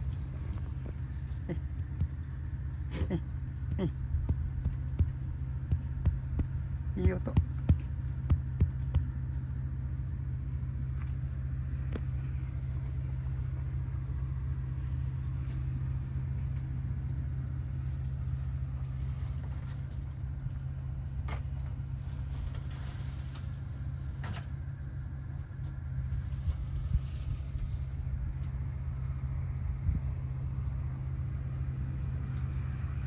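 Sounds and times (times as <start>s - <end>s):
low rumbling hum: 0.0s - 33.0s.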